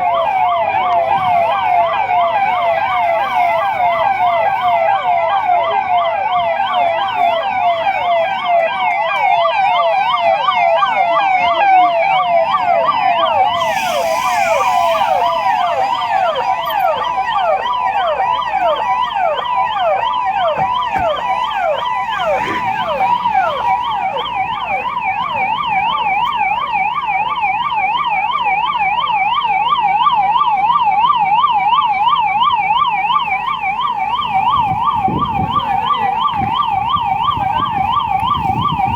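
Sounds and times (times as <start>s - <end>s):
ambulance siren yelping: 0.0s - 38.9s
second siren falling sweeps: 0.0s - 38.9s.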